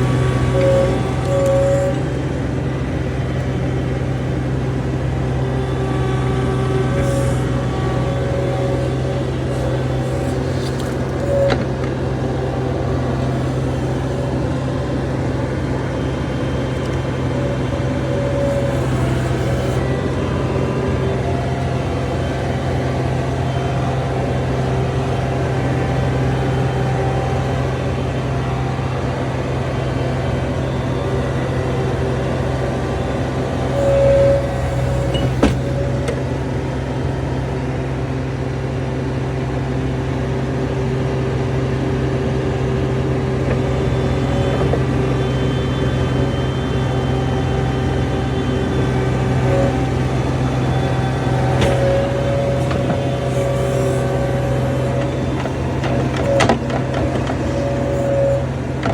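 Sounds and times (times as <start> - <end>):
short squeals: 0.0 - 2.4, 5.3 - 37.0, 42.9 - 58.9
diesel engine running: 0.0 - 58.9.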